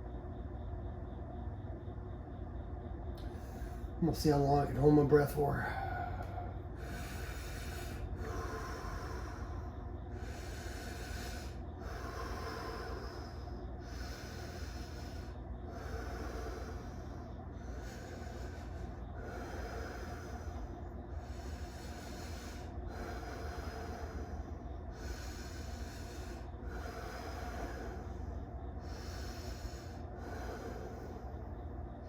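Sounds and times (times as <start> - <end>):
low steady hum: 0.0 - 32.0
man breathing deeply: 3.2 - 4.0, 4.8 - 32.0.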